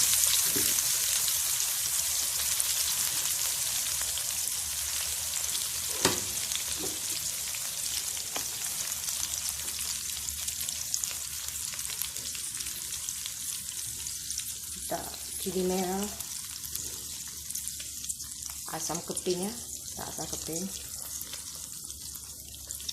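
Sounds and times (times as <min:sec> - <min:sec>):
chicken sizzling in oil: 0:00.0 - 0:22.9.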